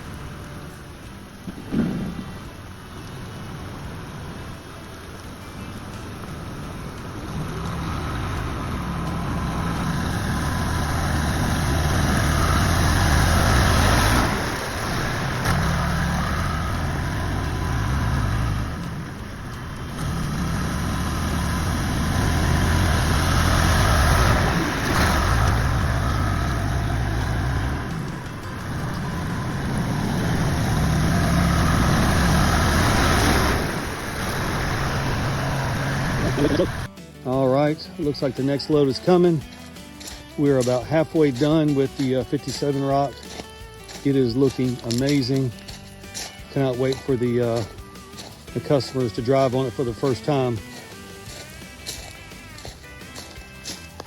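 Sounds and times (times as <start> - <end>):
tractor engine under load: 6.8 - 54.0.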